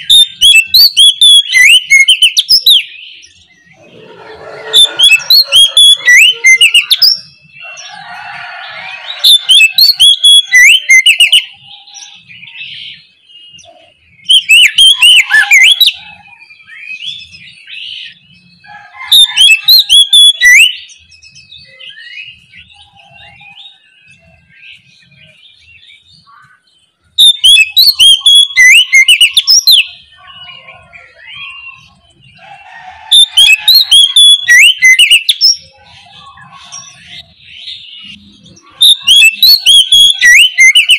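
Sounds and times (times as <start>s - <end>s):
bird singing whistled song: 0.0s - 7.8s, 9.0s - 26.6s, 27.2s - 32.4s, 33.1s - 40.9s.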